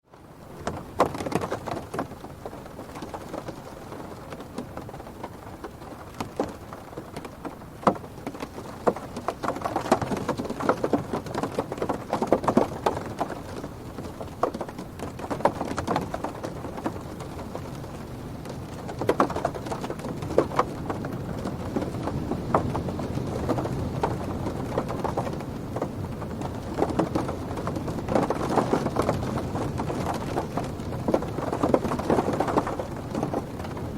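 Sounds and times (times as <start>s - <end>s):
rain drumming on car roof: 0.1s - 33.9s
wind gusts: 0.2s - 33.9s.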